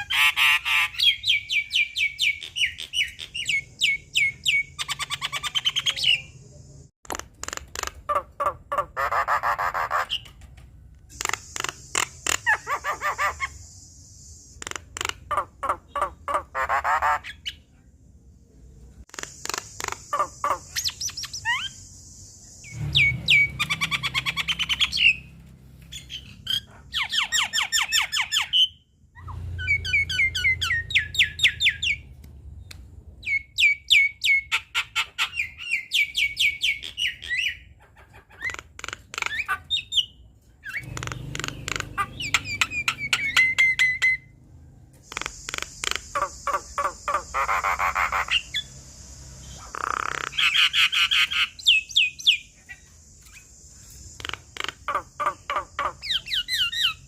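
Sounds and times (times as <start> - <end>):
bird whistles and harsh chattering: 0.0 - 6.4, 11.1 - 17.6, 19.1 - 25.3, 25.9 - 32.0, 33.2 - 44.3, 45.0 - 57.0
myna bird singing: 0.0 - 17.8, 18.5 - 57.0.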